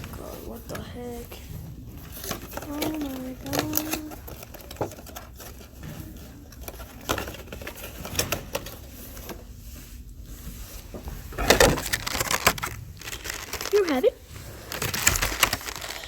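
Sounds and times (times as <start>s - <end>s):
cardboard and plastic rustling: 0.0s - 16.0s.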